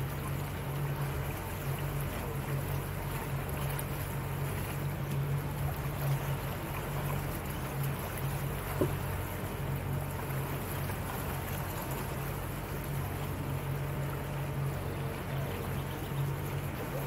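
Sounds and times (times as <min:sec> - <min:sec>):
outboard motor running: 0:00.0 - 0:17.0
water washing along hull: 0:00.0 - 0:17.0.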